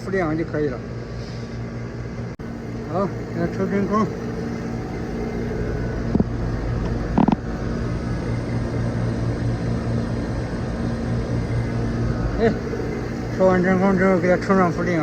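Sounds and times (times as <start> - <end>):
vacuum pump humming: 0.0 - 15.0.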